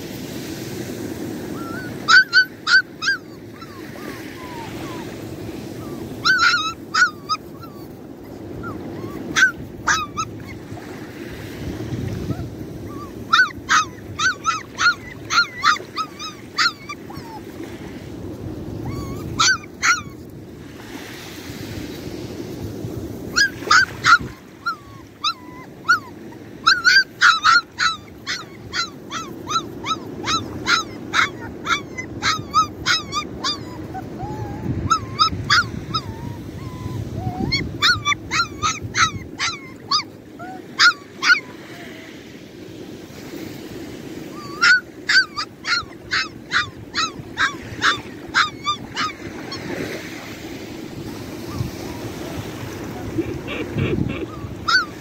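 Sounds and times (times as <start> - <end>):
puppy yelping: 1.4 - 11.4, 12.0 - 20.4, 23.3 - 42.2, 44.2 - 55.0.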